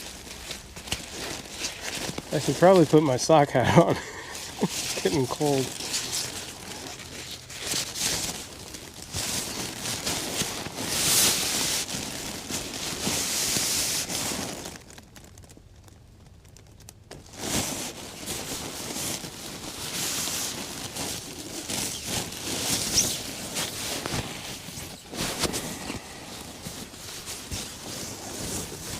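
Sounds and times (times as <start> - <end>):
gear rustling and crinkling: 0.0 - 28.9.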